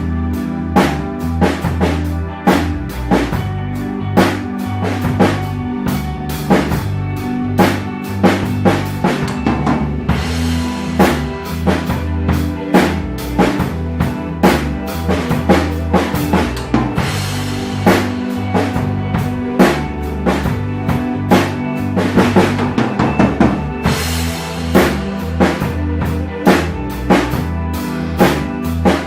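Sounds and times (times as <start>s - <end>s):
ambient rock backing track: 0.0s - 29.0s
drum kit rock beat: 0.0s - 29.0s.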